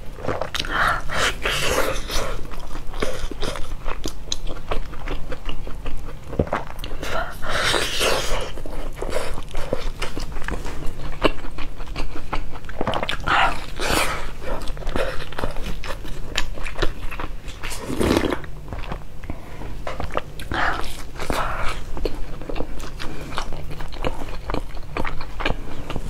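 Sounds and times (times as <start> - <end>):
chewing with wet mouth clicks: 0.2 - 7.0, 8.3 - 26.0.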